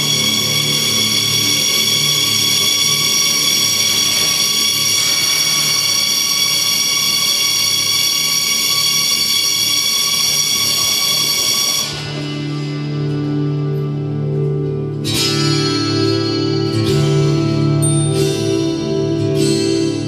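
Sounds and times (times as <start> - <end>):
shrill high-pitched drone: 0.0 - 20.0.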